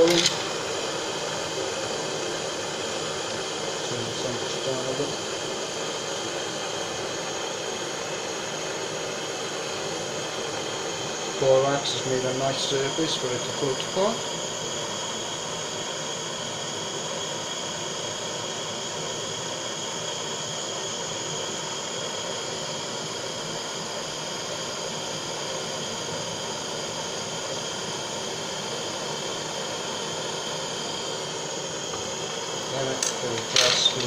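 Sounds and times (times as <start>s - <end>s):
blowtorch flame hissing: 0.0s - 34.0s.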